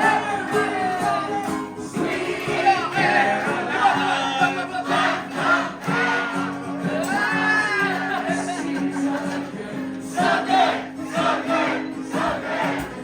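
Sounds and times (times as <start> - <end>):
crowd singing along: 0.0 - 13.0
person singing with instruments: 0.0 - 13.0.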